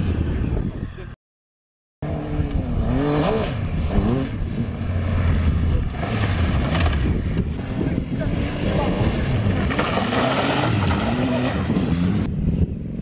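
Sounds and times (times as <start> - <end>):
motorcycle engine revving: 2.0 - 12.6.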